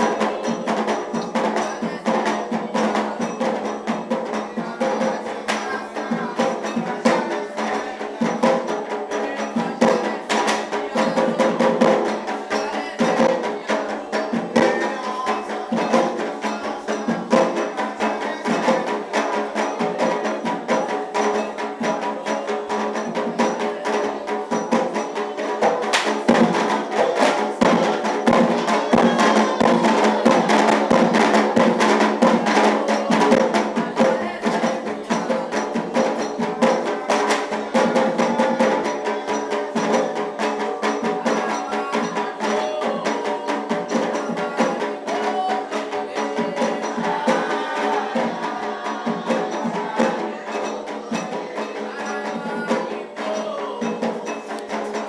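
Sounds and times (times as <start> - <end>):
clacking wood-block percussion: 0.0 - 55.0
drums: 0.0 - 55.0.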